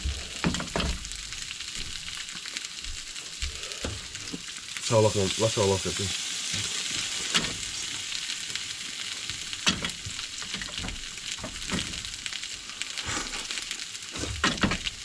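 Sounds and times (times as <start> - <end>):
food sizzling on a hotplate: 0.0 - 15.0.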